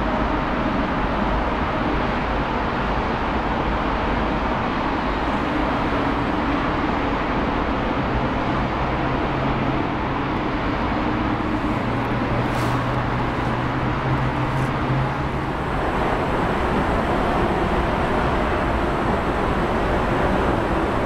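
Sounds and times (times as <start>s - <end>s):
distant jet engines running: 0.0s - 21.0s.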